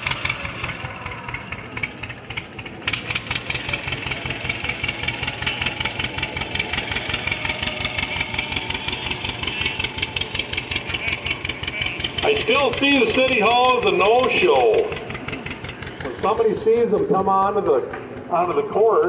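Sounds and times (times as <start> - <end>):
tractor engine putting slowly: 0.0 - 19.0.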